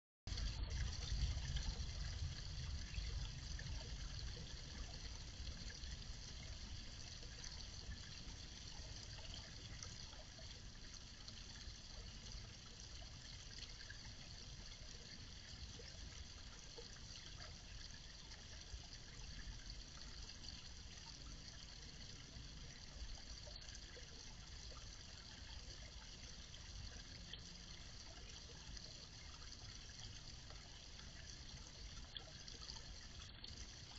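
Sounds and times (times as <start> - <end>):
fountain water trickling: 0.3 - 33.9.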